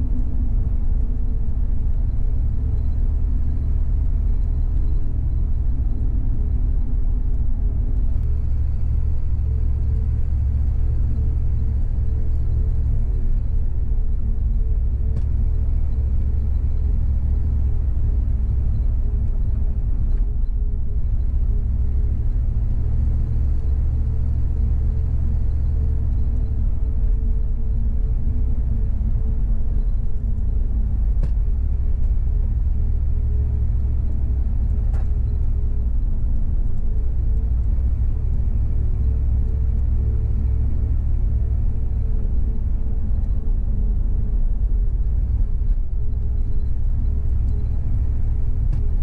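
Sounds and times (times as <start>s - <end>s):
engine hum: 0.0s - 49.0s
road rumble: 0.0s - 49.0s.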